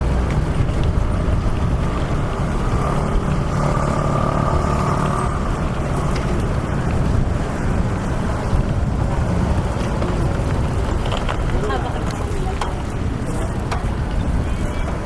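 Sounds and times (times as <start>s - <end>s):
passing cars rumble: 0.0s - 15.0s
vehicle engine: 0.0s - 15.0s.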